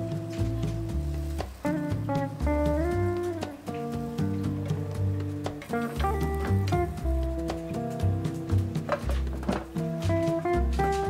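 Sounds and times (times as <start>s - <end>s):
held notes: 0.0s - 11.0s
light ticking percussion: 0.0s - 11.0s
steady bass line: 0.0s - 11.0s.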